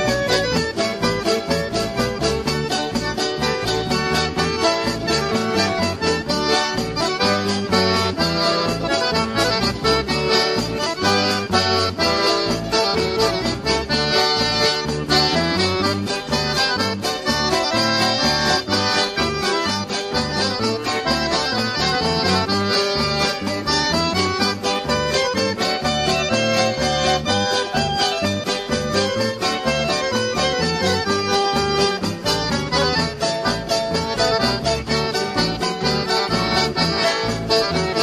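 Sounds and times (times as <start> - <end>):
accordion dance music: 0.0 - 38.0.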